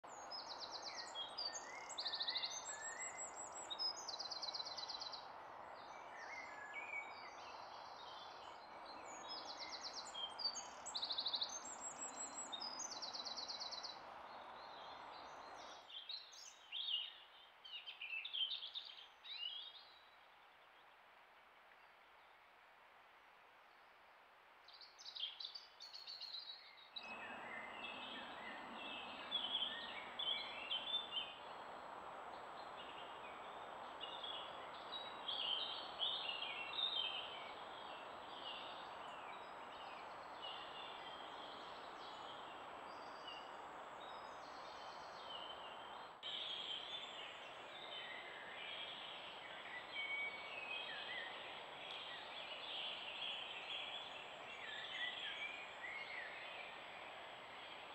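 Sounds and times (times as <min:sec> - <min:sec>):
birds singing: 0:00.0 - 0:19.7, 0:24.8 - 0:57.9
background hiss: 0:00.1 - 0:57.9.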